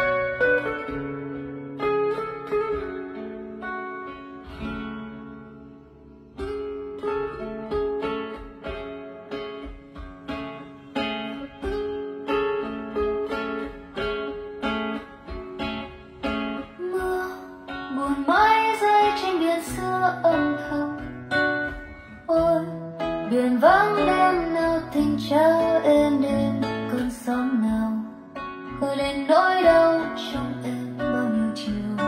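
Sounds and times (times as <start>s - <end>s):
plucked guitar through loudspeakers: 0.0s - 32.0s.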